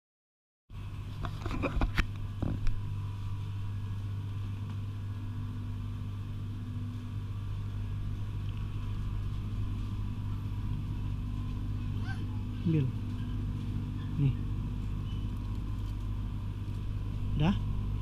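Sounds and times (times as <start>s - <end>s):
refrigerator electrical hum: 0.7s - 18.0s.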